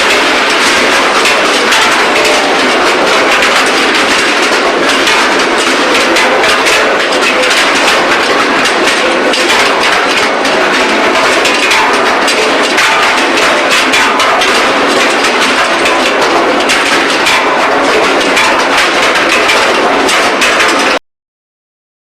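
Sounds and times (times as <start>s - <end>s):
industrial machinery clatter: 0.0s - 21.0s.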